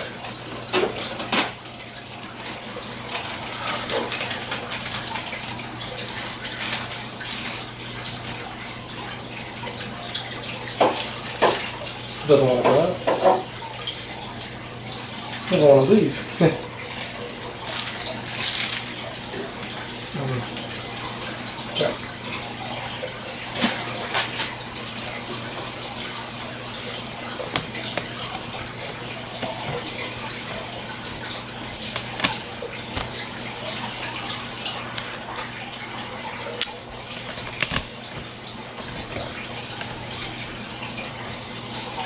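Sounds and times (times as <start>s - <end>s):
aquarium filter water splashing: 0.0s - 42.0s.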